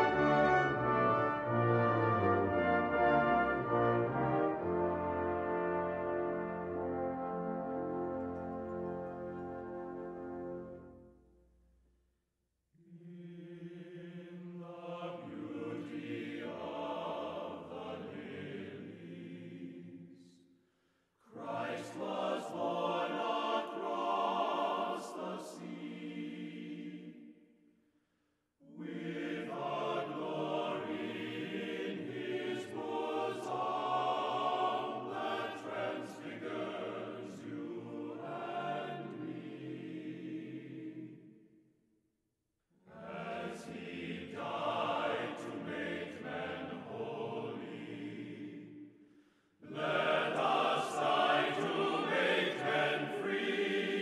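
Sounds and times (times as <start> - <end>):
choir-like singing: 0.0 - 11.2, 12.8 - 20.5, 21.2 - 27.5, 28.6 - 41.6, 42.8 - 54.0.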